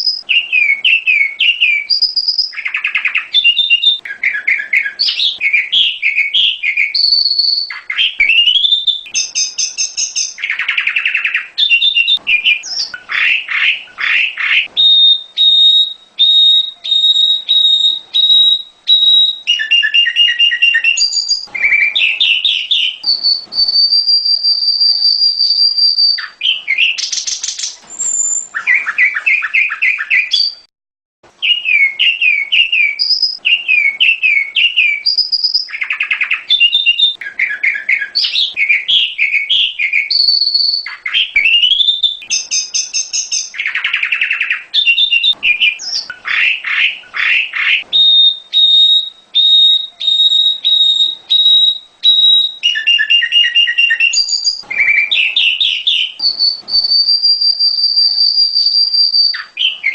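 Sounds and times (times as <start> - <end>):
bird singing chirps and warbles: 0.0 - 30.7, 31.4 - 59.9.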